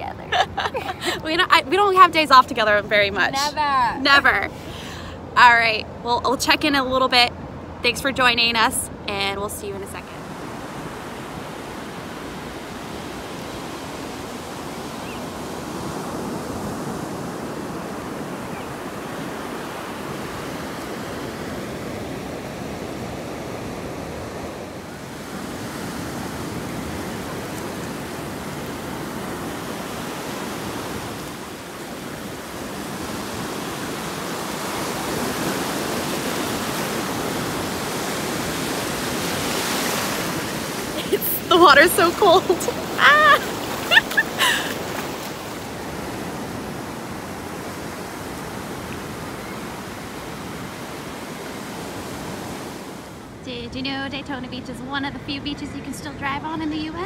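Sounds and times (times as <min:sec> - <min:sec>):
surf breaking and washing on sand: 0:06.1 - 0:53.4.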